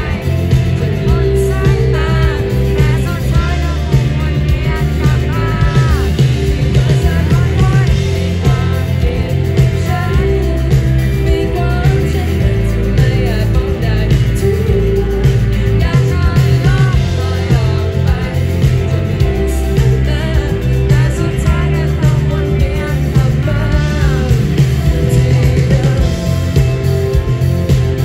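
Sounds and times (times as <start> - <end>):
drums: 0.0 - 28.0
electric guitars: 0.0 - 28.0
person singing: 0.0 - 28.0.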